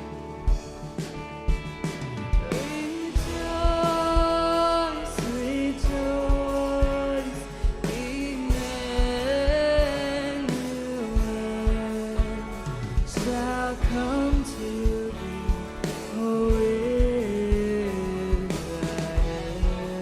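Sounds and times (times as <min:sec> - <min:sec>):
live worship band: 0:00.0 - 0:20.0.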